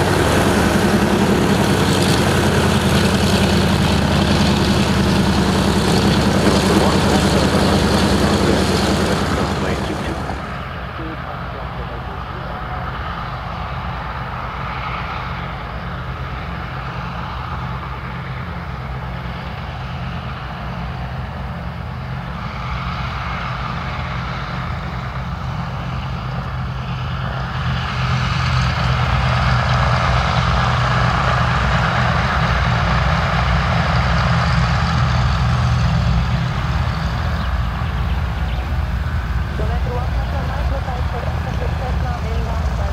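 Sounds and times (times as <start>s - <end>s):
propeller aircraft engines droning: 0.0s - 42.9s.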